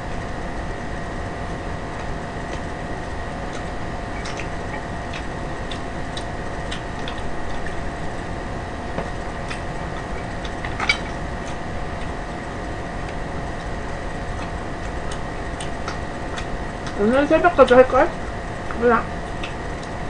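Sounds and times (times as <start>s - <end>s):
electric fan whirring: 0.0s - 20.0s
faint hum: 0.0s - 20.0s.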